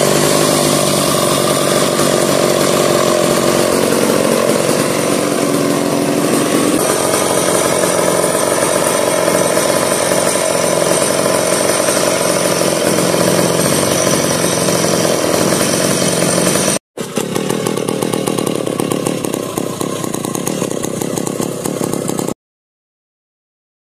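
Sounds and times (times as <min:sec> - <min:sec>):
chainsaw idling: 0:00.0 - 0:22.4.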